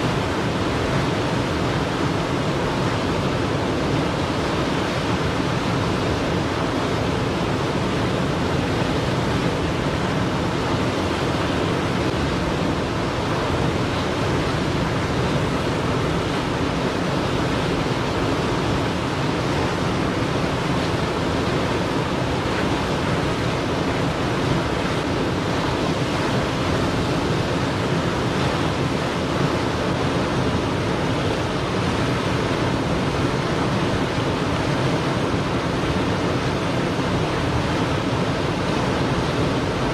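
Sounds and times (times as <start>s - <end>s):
churning whitewater rushing: 0.0s - 39.9s.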